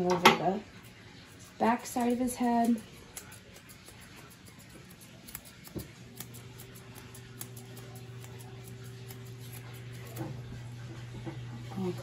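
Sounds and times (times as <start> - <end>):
grooming shears snipping: 1.4 - 11.0.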